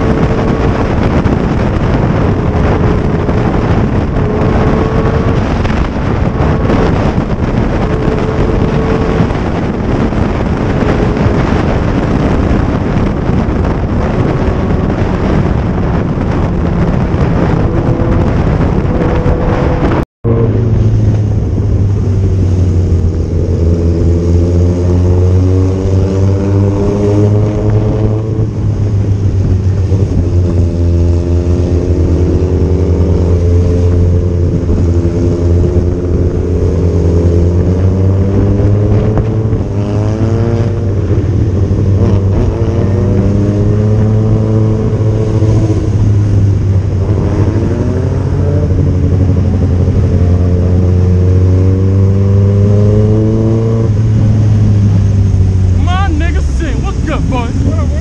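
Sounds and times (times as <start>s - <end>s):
low wind rumble: 0.0s - 58.0s
motorcycle engine revving: 0.0s - 58.0s.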